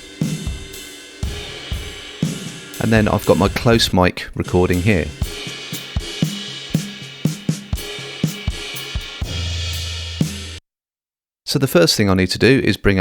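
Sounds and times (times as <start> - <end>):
drum kit groove: 0.0 - 10.6.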